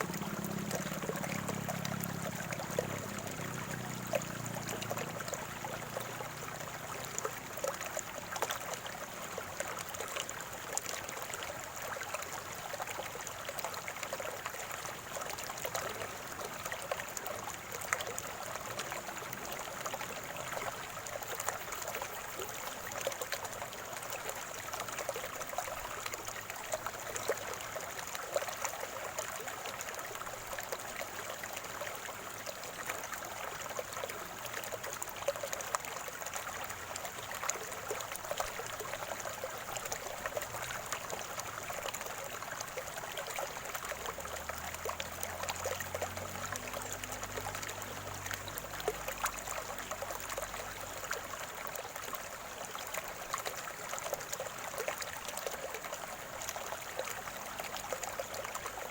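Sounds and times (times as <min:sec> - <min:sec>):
small water splashes: 0:00.0 - 0:58.9
stream trickling over stones: 0:00.0 - 0:58.9.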